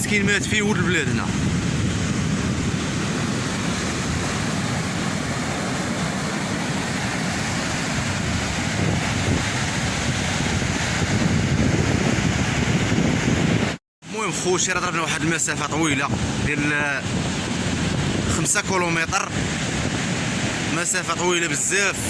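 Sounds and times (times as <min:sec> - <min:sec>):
wind buffeting microphone: 0:00.0 - 0:13.8, 0:15.9 - 0:18.6, 0:19.3 - 0:20.7
sea surf breaking on shore: 0:00.0 - 0:22.0.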